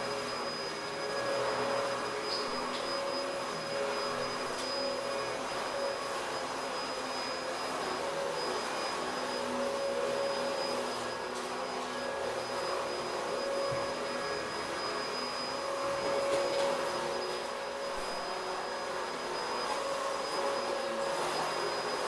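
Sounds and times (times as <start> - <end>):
steady high tone: 0.0 - 22.0
vacuum cleaner running: 0.0 - 22.0.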